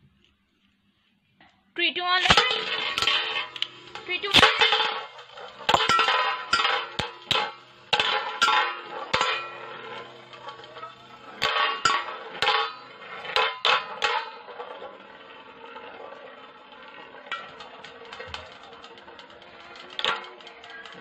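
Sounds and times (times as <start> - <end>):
spinning tops clashing metallically: 2.2 - 21.0.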